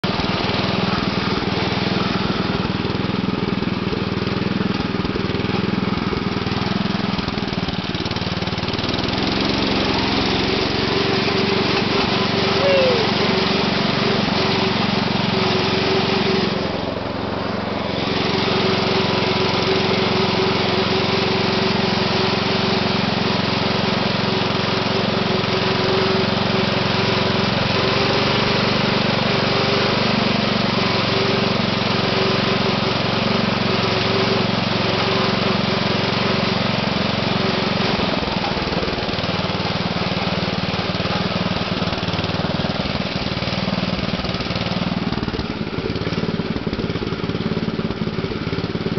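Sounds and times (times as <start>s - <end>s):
small tractor engine running: 0.0s - 48.9s.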